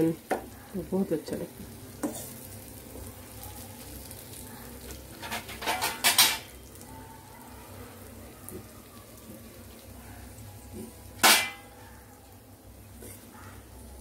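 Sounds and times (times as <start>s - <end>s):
eggplant frying in oil: 0.0s - 14.0s.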